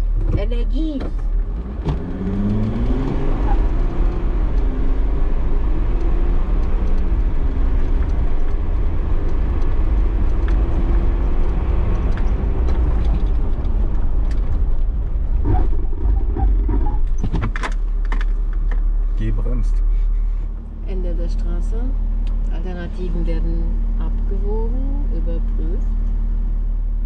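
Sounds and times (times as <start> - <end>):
car engine accelerating: 0.0 - 27.0
rumble of tyres and wind: 0.0 - 27.0.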